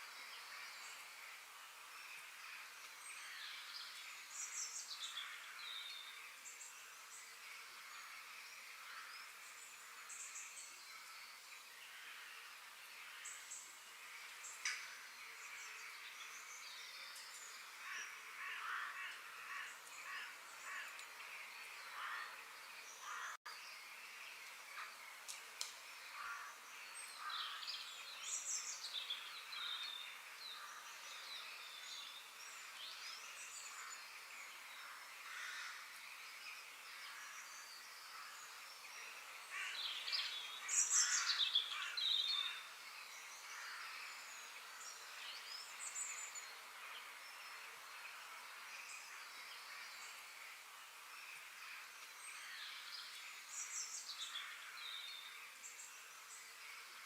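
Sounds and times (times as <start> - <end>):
birds singing and calling: 0.0 - 57.0
faint steady hiss: 0.0 - 57.0.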